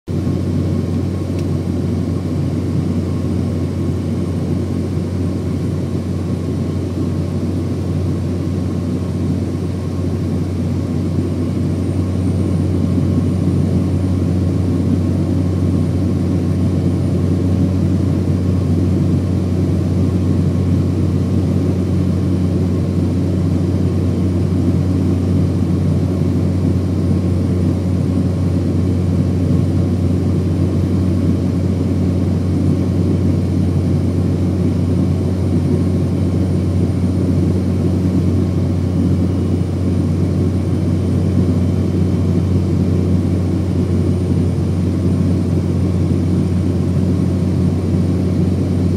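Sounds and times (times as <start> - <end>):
propeller plane engine drone: 0.1 - 48.9.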